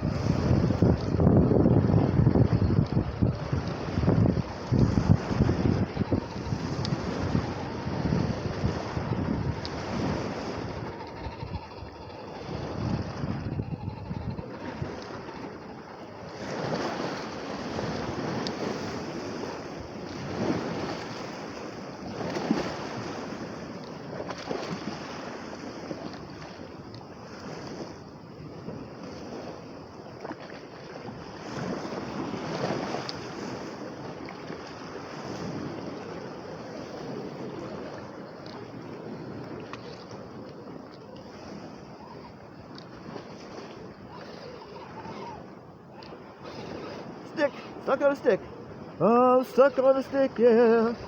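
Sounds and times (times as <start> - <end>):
waves breaking on shore: 0.0 - 51.0
wind buffeting microphone: 0.0 - 51.0.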